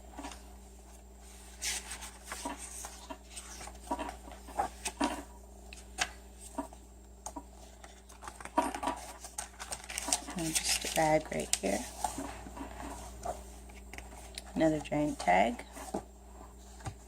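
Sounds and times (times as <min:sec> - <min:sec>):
paper pages rustling: 0:01.3 - 0:16.0.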